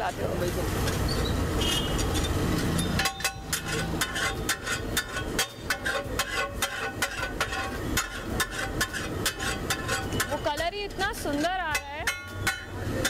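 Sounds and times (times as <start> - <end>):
metal spatula clanking on iron griddle: 2.0 - 13.0.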